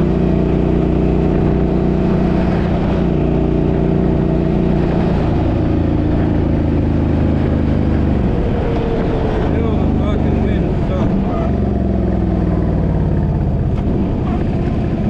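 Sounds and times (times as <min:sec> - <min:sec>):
car engine droning: 0:00.0 - 0:15.0
road noise: 0:00.0 - 0:15.0.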